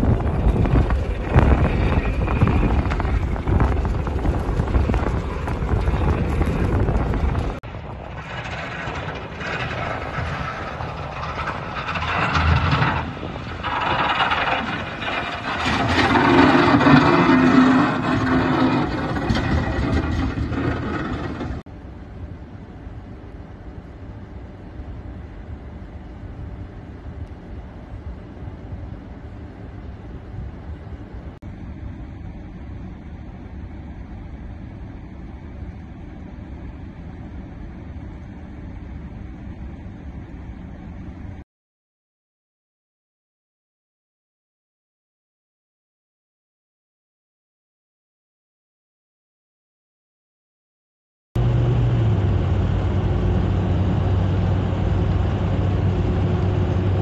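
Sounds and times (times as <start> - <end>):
tyre and engine rumble: 0.0 - 41.4, 51.4 - 57.0.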